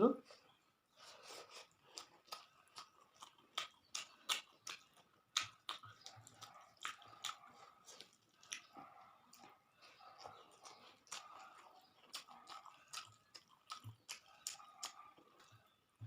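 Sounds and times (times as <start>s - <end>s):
chewing and lip-smacking: 0.3s - 16.0s.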